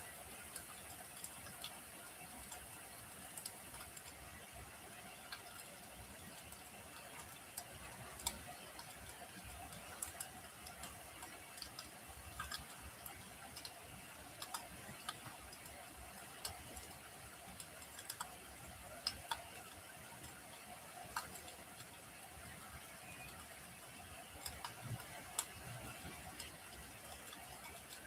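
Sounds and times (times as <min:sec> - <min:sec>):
fire crackling and popping: 0:00.2 - 0:28.0.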